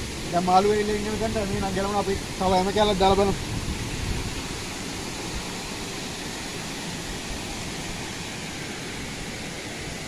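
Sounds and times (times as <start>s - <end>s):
water rushing over weir: 0.0s - 10.0s.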